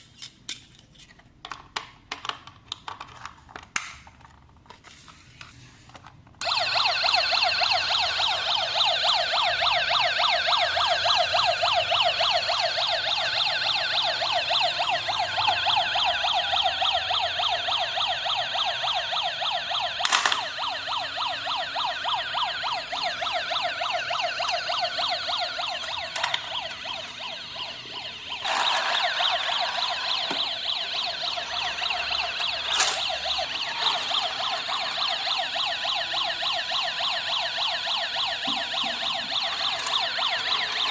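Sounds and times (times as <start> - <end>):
toy police siren: 6.4 - 40.9.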